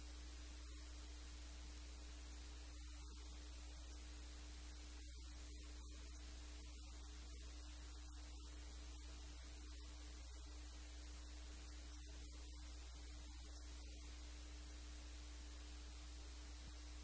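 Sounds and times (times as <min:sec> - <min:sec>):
faint hiss: 0:00.0 - 0:17.0
low electrical hum: 0:00.0 - 0:17.0.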